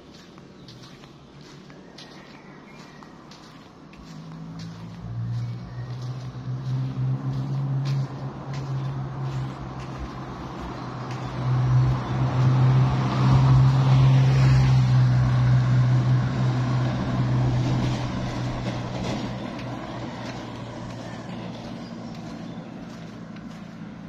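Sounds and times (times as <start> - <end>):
pickup truck driving past: 3.4 - 24.0.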